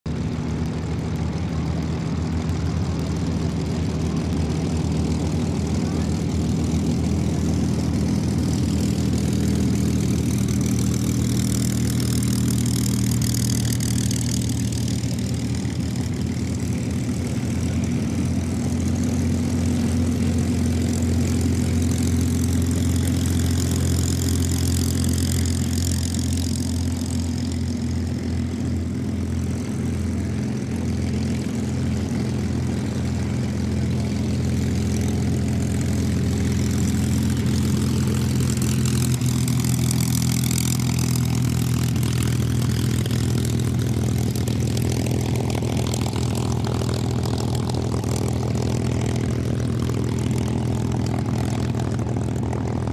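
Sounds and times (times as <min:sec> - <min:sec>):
aircraft engines idling: 0:00.1 - 0:52.9.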